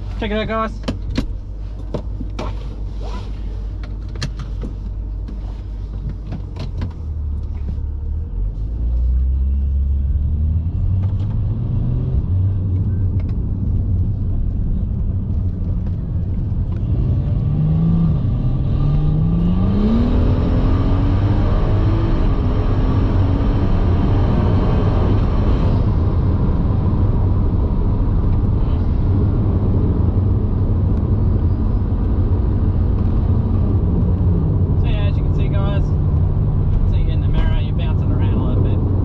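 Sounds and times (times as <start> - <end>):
road rumble inside car: 0.0 - 39.0
car engine accelerating: 2.3 - 39.0.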